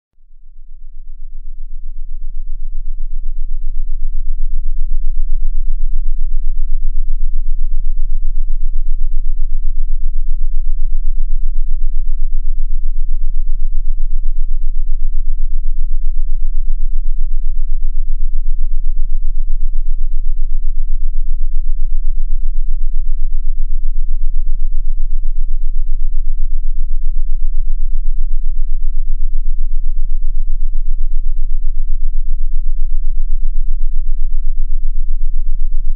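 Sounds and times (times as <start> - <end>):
deep steady low hum: 0.2 - 35.9.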